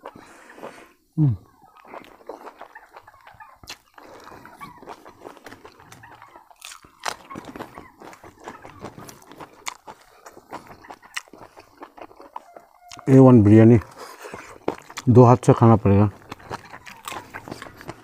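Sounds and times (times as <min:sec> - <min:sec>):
person chewing with lip-smacking: 0:00.0 - 0:13.1, 0:13.8 - 0:15.1, 0:16.1 - 0:18.0.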